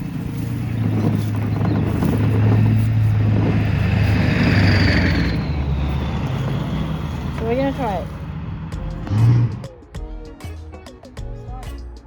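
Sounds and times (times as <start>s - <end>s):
low motor hum: 0.0s - 9.7s.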